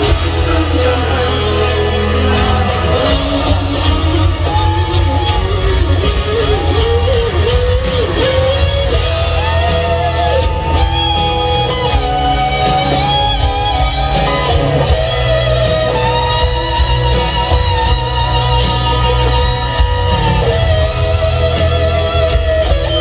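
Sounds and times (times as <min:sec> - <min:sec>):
electric guitar solo with bends: 0:00.0 - 0:23.0
live rock band: 0:00.0 - 0:23.0.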